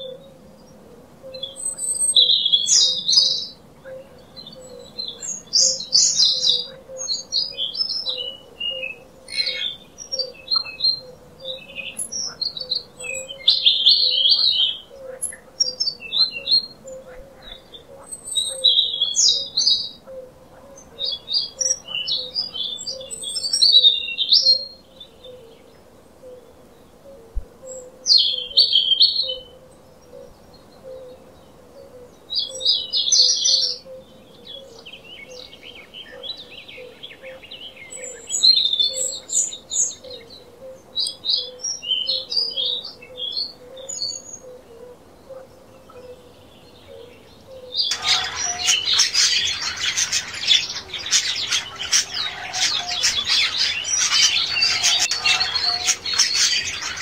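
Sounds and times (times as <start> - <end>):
faint steady hum: 0.0 - 57.0
songbirds twittering: 0.0 - 57.0.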